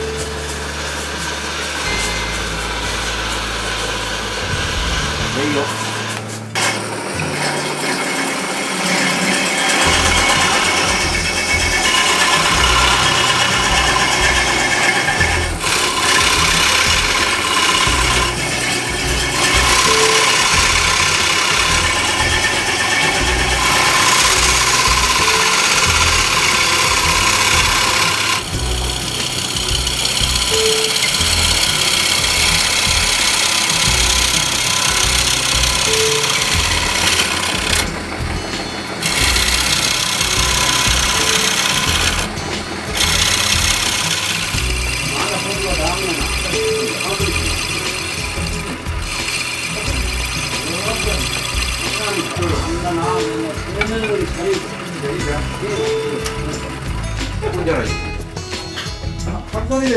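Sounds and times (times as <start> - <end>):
lathe humming: 0.0 - 57.5
tool scraping wooden bowl: 0.0 - 57.8.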